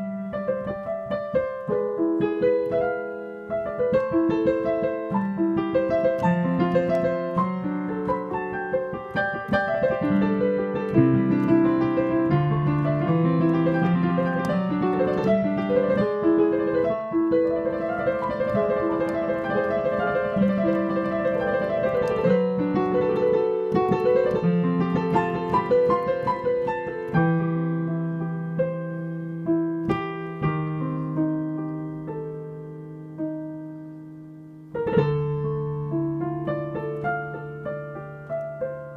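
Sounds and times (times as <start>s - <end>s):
piano improvisation: 0.0s - 38.9s.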